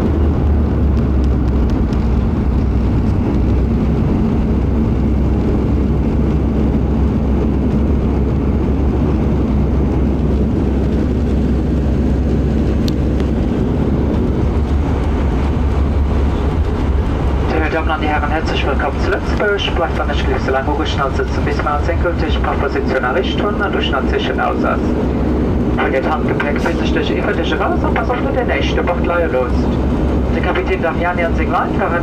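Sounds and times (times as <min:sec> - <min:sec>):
turboprop engine drone in cabin: 0:00.0 - 0:32.0.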